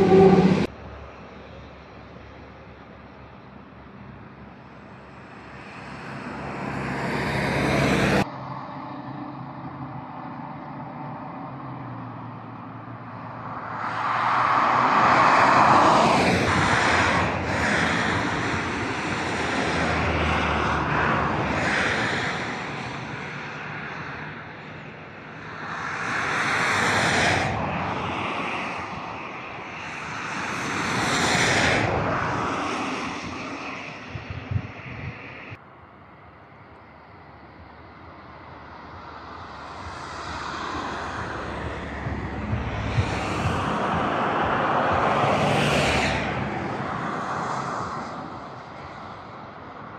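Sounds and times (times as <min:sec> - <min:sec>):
jet airliner roar overhead: 0:00.0 - 0:49.9.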